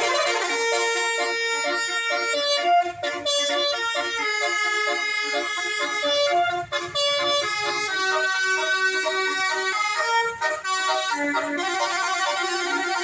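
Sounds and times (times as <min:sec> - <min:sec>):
bus air horns playing a tune: 0:00.0 - 0:13.0.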